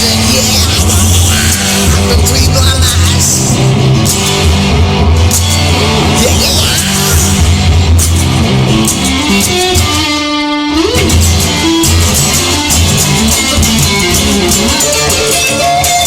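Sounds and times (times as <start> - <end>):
steady drum beat: 0.0 - 10.2, 11.0 - 16.0
bass guitar: 0.0 - 16.0
electric guitar lead: 0.0 - 16.0.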